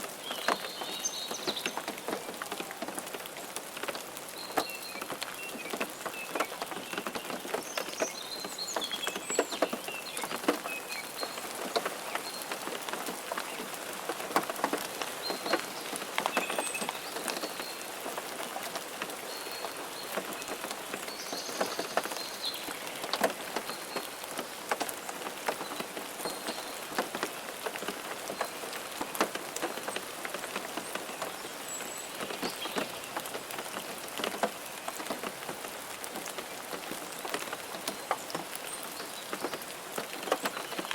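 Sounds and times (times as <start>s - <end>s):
raindrops hitting a surface: 0.0s - 40.9s
steady rain: 0.0s - 40.9s.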